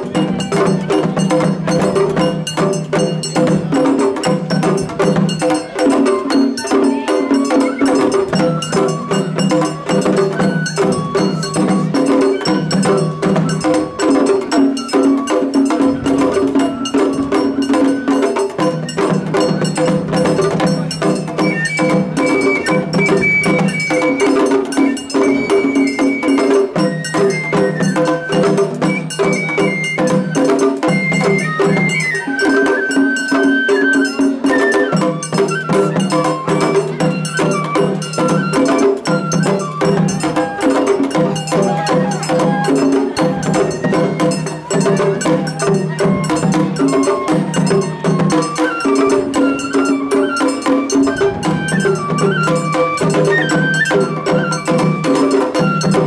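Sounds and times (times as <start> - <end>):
high melody line: 0.0 - 56.0
rapid percussion beat: 0.0 - 56.0.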